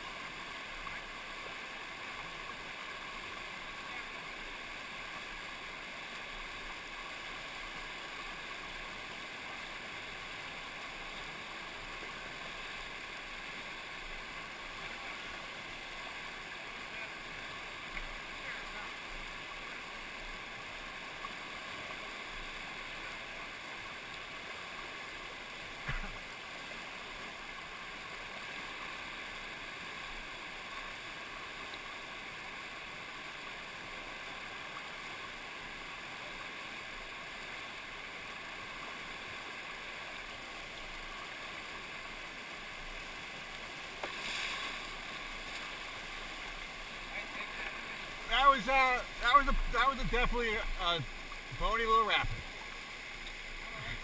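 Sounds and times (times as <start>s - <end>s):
whitewater rapid rushing: 0.0s - 54.0s.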